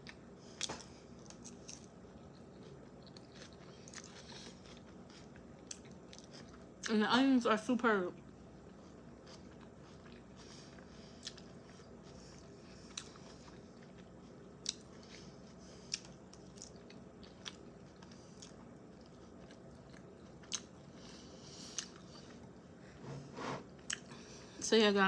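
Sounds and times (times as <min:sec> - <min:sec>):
close chewing: 0:00.0 - 0:06.6, 0:08.6 - 0:22.5.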